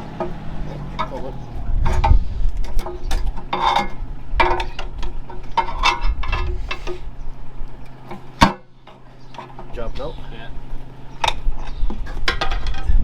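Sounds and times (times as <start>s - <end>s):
hand tools clanking on metal: 0.0s - 7.1s, 7.8s - 13.0s
steady low hum: 0.0s - 12.8s.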